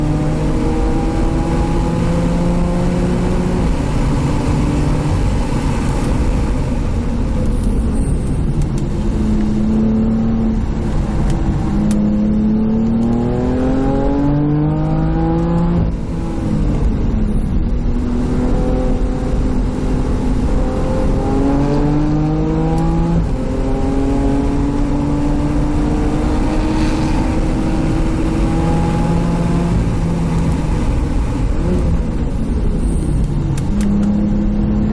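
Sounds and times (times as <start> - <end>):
car engine accelerating: 0.0 - 34.9
road and wind noise: 0.0 - 34.9.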